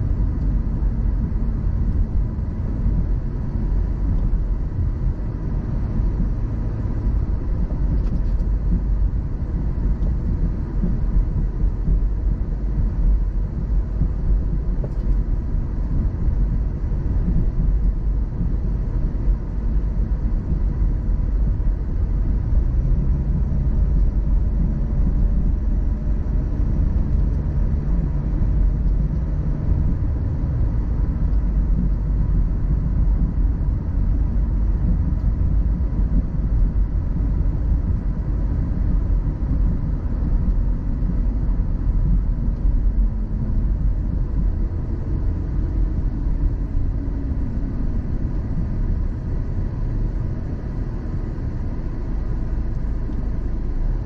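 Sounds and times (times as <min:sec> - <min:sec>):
car road rumble from inside: 0:00.0 - 0:54.0.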